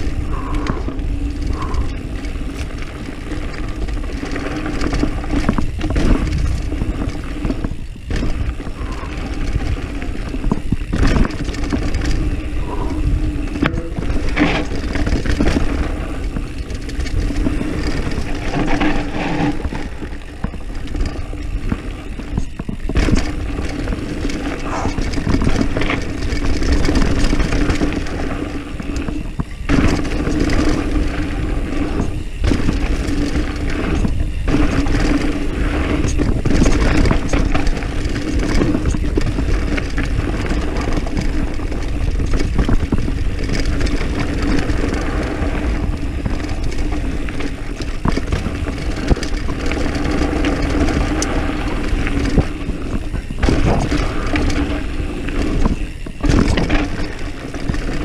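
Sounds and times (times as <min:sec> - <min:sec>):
bike rattling over bumps: 0:00.0 - 0:58.0
tyres rumbling over dirt: 0:00.0 - 0:58.0
wind buffeting microphone: 0:00.0 - 0:58.0.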